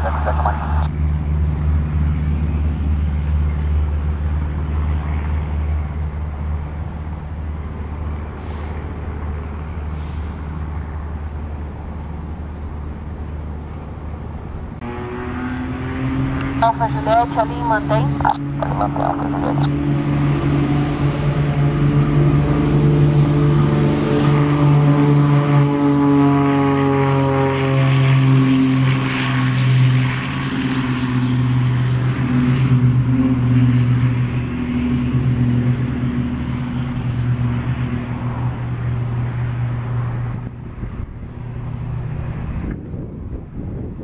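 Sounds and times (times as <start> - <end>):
twin propeller plane taking off: 0.0 - 44.0.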